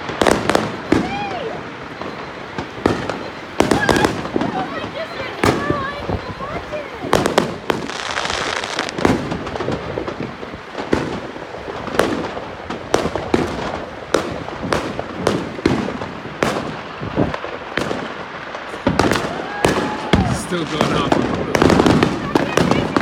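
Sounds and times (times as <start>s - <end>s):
crackle of small firework reports: 0.0s - 23.0s
firework bangs: 0.0s - 23.0s.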